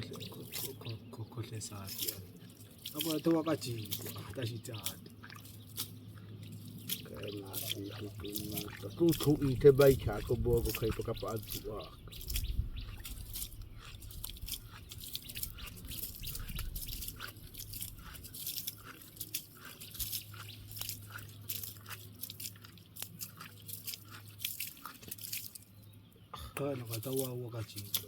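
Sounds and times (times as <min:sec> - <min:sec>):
people crunching and chewing: 0:00.0 - 0:28.0.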